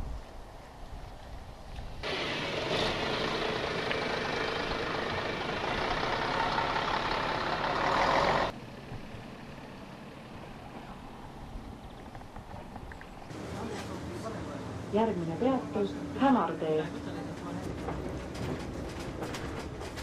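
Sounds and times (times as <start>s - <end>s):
bus engine running: 2.0s - 11.9s, 13.3s - 20.0s.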